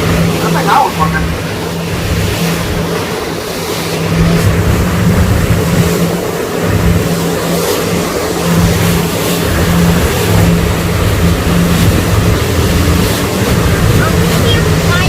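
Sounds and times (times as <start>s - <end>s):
boat engine humming: 0.0s - 15.0s
wind rumbling on microphone: 0.0s - 15.0s.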